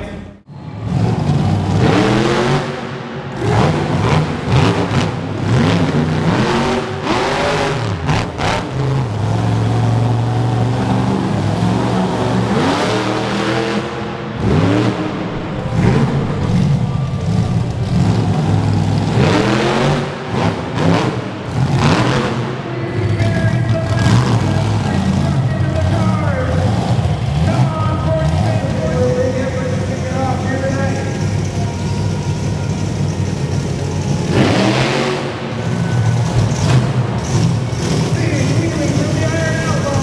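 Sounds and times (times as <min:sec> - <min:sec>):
monster truck engine revving: 0:00.5 - 0:40.0.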